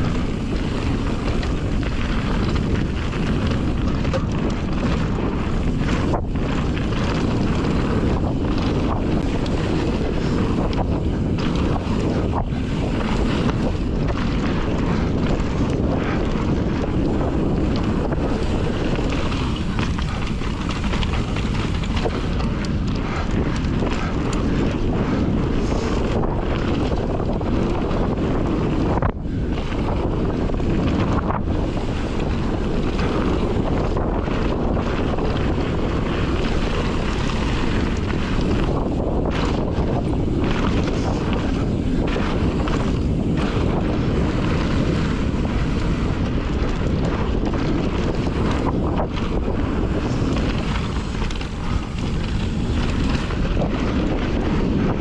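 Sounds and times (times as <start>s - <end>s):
bike tyre noise: 0.0s - 55.0s
wind rushing over microphone: 0.0s - 55.0s.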